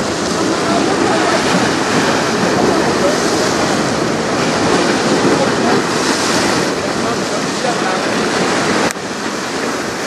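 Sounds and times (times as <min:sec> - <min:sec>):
river water rushing: 0:00.0 - 0:10.0
wind noise on microphone: 0:00.0 - 0:10.0.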